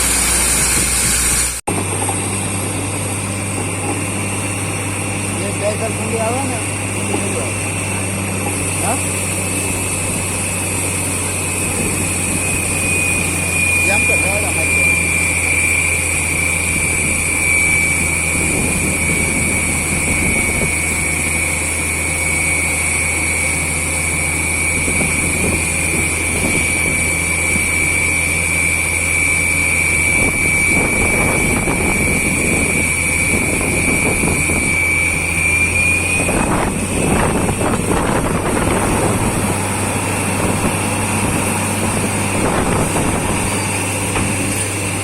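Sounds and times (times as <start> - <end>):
drilling rig engine drone: 0.0 - 45.0
high whine and hiss: 0.0 - 45.0.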